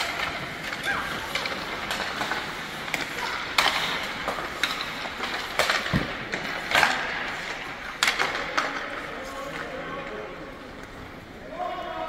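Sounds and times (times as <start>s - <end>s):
skate blades scraping ice: 0.0s - 9.9s
sticks clacking on pucks: 0.0s - 11.2s.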